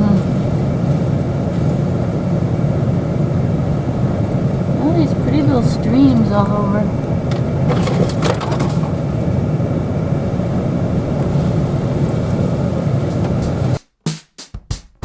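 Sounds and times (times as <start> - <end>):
engine and tyre rumble: 0.0 - 13.8.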